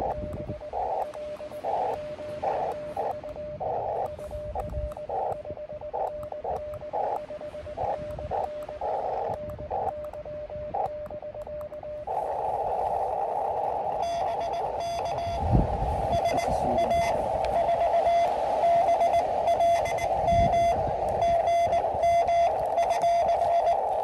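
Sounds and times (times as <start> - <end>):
morse code tone: 0.0 - 24.0
receiver hiss: 0.0 - 24.0.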